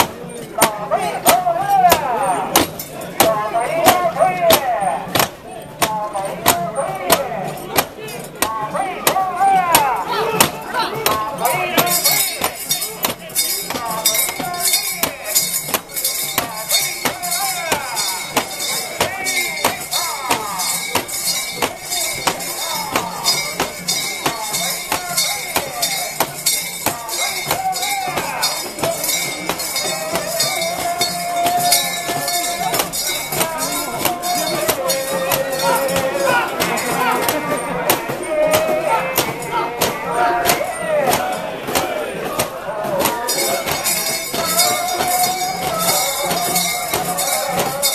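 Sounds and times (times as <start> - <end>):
metal bells clanking and jingling: 0.0 - 47.9
people shouting and calling: 0.0 - 47.9.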